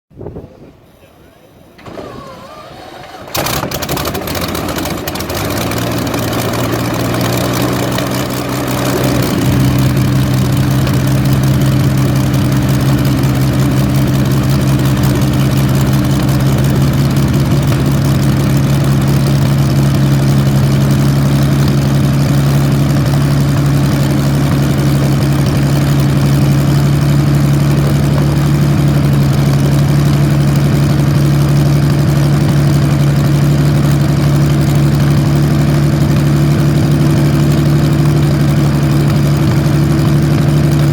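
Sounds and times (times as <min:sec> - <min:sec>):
aircraft engine idling: 0:01.3 - 0:40.9.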